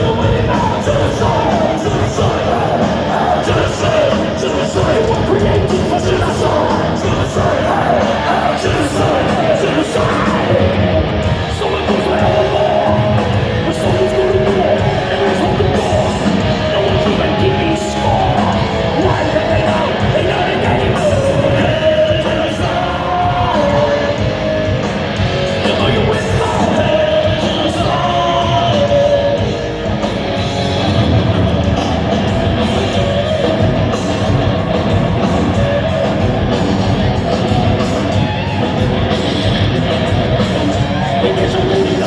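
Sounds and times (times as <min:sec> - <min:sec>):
live heavy metal band: 0:00.0 - 0:42.0.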